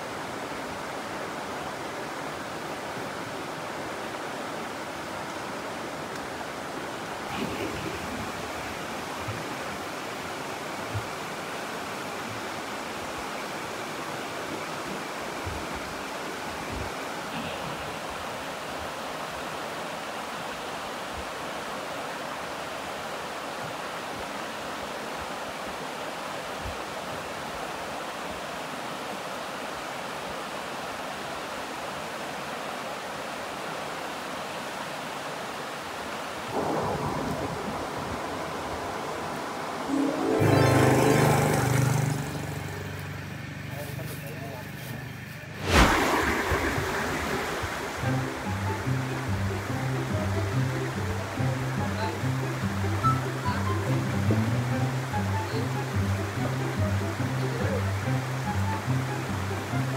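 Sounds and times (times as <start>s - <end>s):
stream flowing over rocks: 0.0s - 43.6s, 45.4s - 59.9s.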